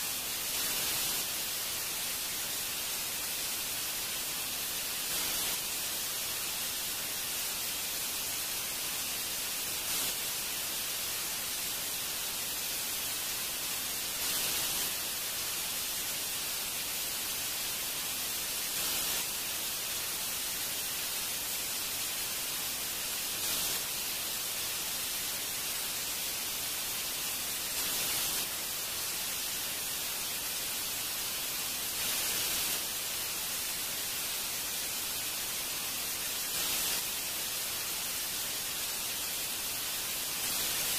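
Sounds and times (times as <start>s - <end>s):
steady hiss: 0.0s - 40.9s.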